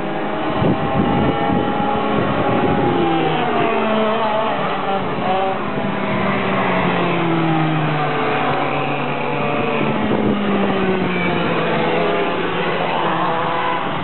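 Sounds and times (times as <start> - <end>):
racing kart engines: 0.0 - 14.0.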